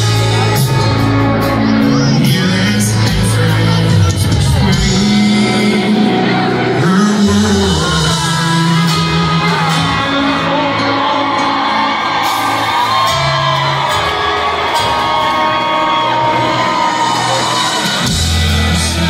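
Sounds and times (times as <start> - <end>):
man singing: 0.0 - 14.0, 16.0 - 19.0
country band playing: 0.0 - 19.0.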